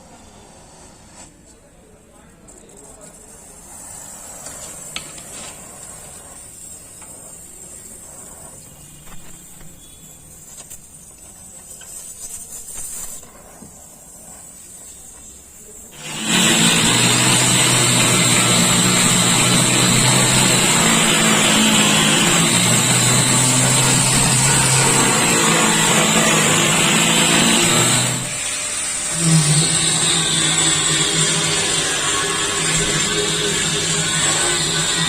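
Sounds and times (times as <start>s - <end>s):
machine hissing and humming: 2.5s - 35.0s.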